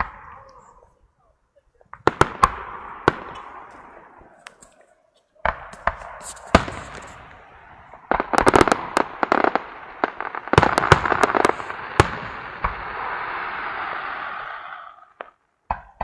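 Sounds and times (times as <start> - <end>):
fireworks cracking and popping: 1.8 - 16.0
crackling hiss: 2.0 - 15.6.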